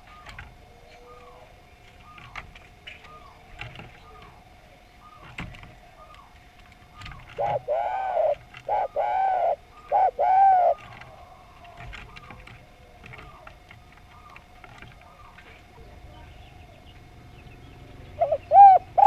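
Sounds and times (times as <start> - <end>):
dove cooing: 0.0 - 19.0
faint bird calls: 0.0 - 19.0.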